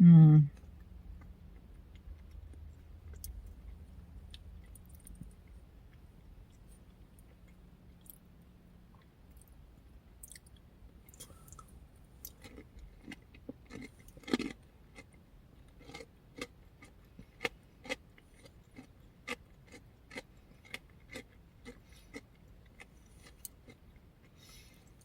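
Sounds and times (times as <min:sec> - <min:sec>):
person chewing crunchy food: 0:00.6 - 0:08.3, 0:10.2 - 0:25.0.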